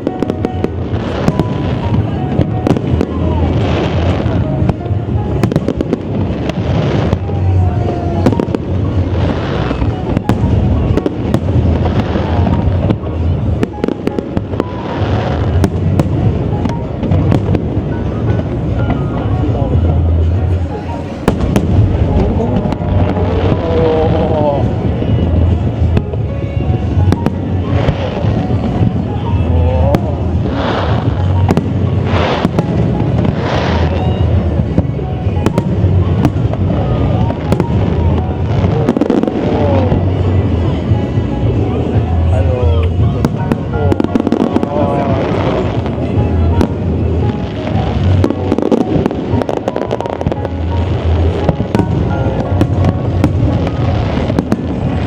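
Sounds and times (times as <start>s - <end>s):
firework cracks and crackling: 0.0s - 55.0s
rumble of firework bursts: 0.0s - 55.0s.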